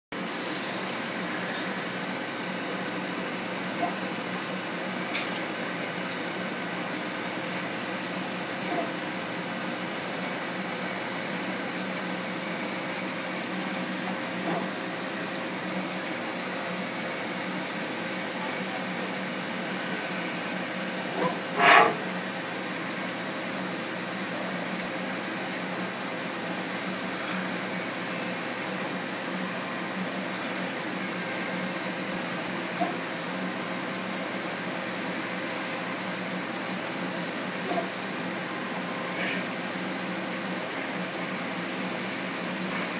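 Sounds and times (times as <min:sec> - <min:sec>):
coolant splashing: 0:00.2 - 0:42.9.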